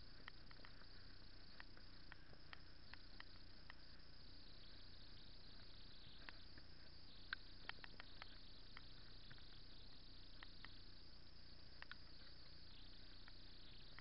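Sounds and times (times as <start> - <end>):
faint steady hiss: 0.0 - 14.0
small irregular clicks and ticks: 0.0 - 14.0.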